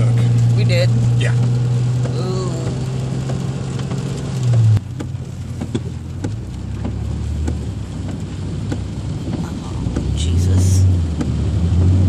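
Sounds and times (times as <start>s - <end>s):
car cabin rumble: 0.0s - 12.0s
raindrops ticking on glass: 0.4s - 12.0s.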